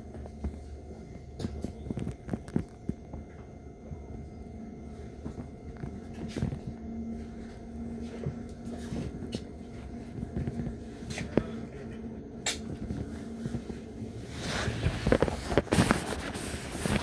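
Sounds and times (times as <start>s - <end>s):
steady low hum: 0.0s - 17.0s
train rumble from inside carriage: 0.0s - 17.0s.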